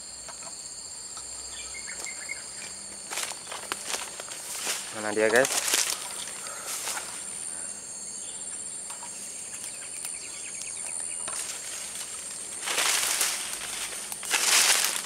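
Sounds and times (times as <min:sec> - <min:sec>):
insects droning: 0:00.0 - 0:15.0
leaves and undergrowth rustling: 0:01.3 - 0:15.0.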